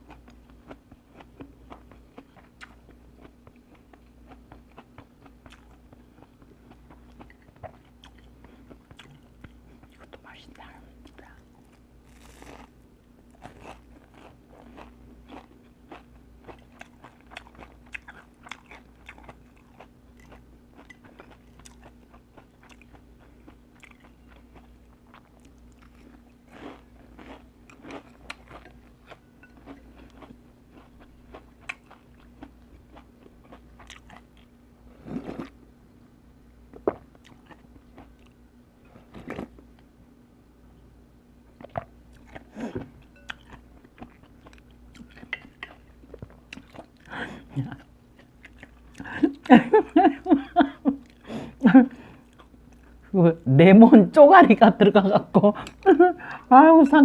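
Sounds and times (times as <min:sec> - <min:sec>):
person chewing food: 0:00.0 - 0:35.6, 0:36.7 - 0:39.9, 0:41.6 - 0:53.1.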